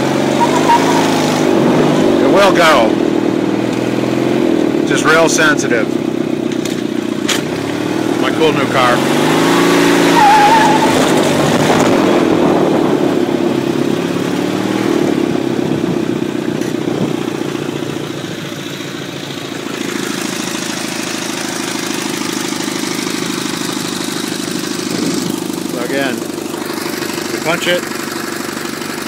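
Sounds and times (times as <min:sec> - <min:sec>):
go-kart engine running: 0:00.0 - 0:29.0.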